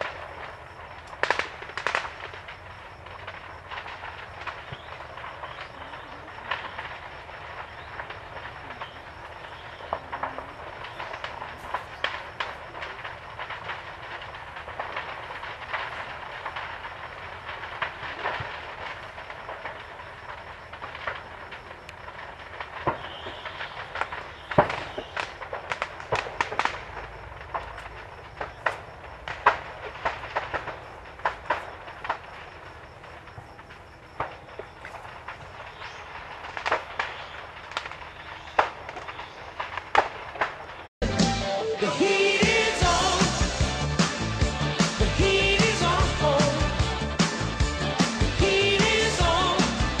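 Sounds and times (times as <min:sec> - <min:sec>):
fire hissing: 0:00.0 - 0:50.0
fireworks popping and crackling: 0:00.0 - 0:50.0
loud bangs: 0:06.4 - 0:50.0.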